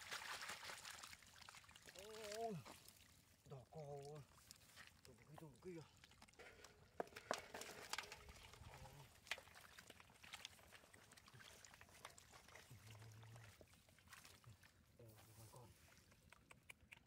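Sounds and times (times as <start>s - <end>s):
muddy water splashing and draining: 0.0s - 17.0s.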